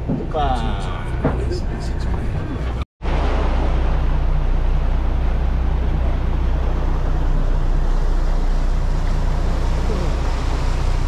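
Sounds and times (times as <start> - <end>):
boat engine droning: 0.0 - 11.0
water noise: 0.0 - 11.0.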